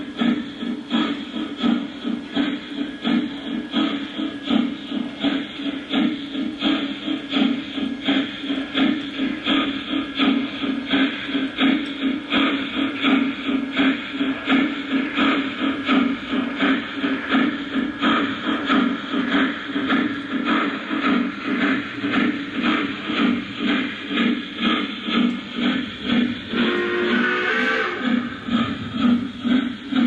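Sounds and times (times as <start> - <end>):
model train steam chuffing: 0.0 - 30.0.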